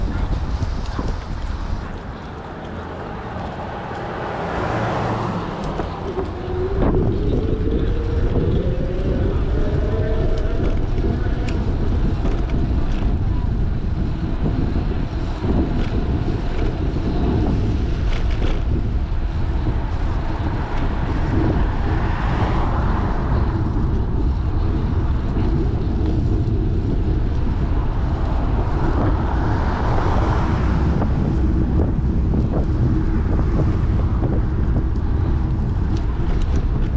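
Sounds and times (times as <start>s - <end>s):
wind rushing over microphone: 0.0s - 36.9s.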